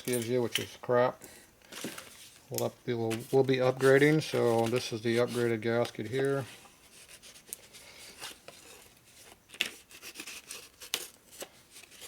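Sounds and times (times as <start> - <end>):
packaging rustling: 1.6 - 12.0.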